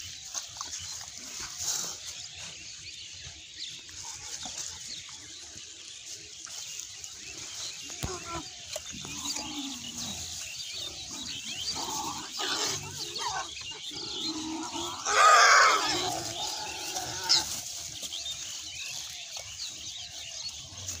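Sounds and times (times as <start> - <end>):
pigs calling and squealing: 0.0 - 21.0.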